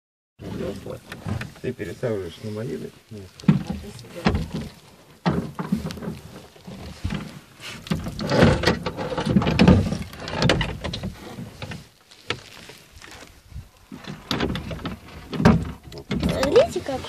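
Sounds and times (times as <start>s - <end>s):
oars knocking and creaking in oarlocks: 0.4s - 17.0s.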